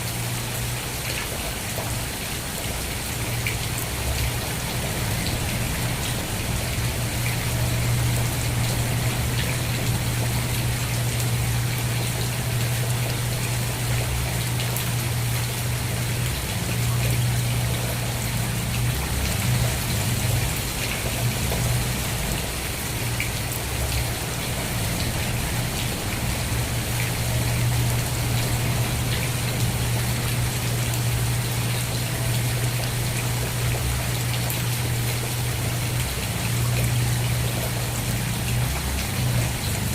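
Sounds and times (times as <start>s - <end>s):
raindrops ticking on a surface: 0.0s - 39.9s
steady rain: 0.0s - 39.9s.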